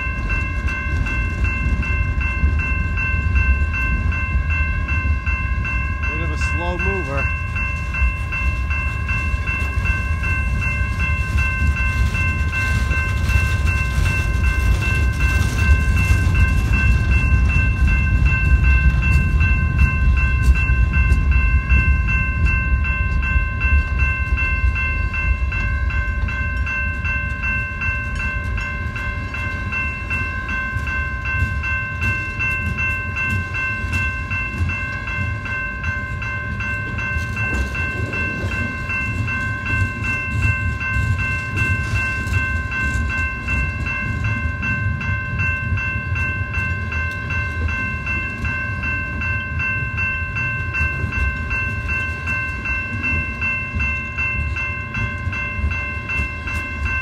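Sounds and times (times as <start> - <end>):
crossing warning bell ringing: 0.0 - 57.0
freight train rumbling past: 0.0 - 57.0.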